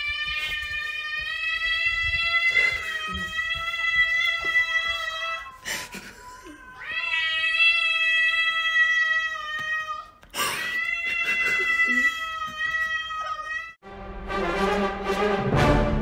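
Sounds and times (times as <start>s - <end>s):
cats yowling: 0.0s - 13.8s.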